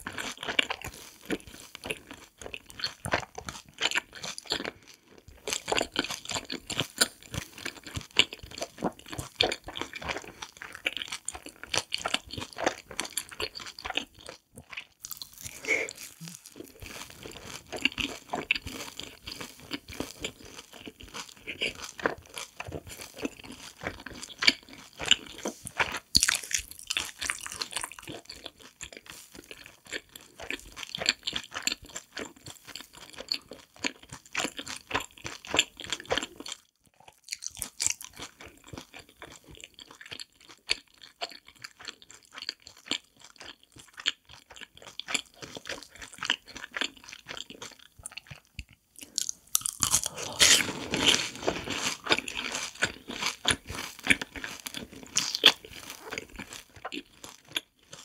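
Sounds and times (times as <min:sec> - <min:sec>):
crunching and chewing fried snacks: 0:00.0 - 0:58.0.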